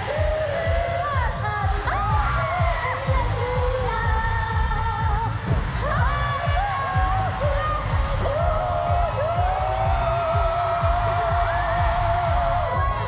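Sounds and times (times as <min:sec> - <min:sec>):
heavy bass beat: 0:00.0 - 0:13.0
women singing: 0:00.0 - 0:13.0.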